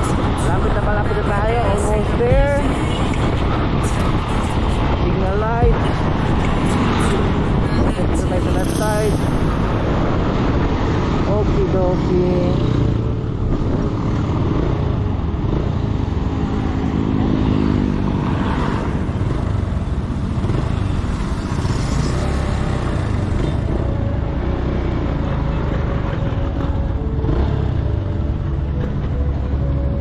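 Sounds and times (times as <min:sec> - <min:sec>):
motorcycle engine running: 0:00.0 - 0:30.0
motorcycles passing: 0:00.0 - 0:30.0
wind and road rumble: 0:00.0 - 0:30.0.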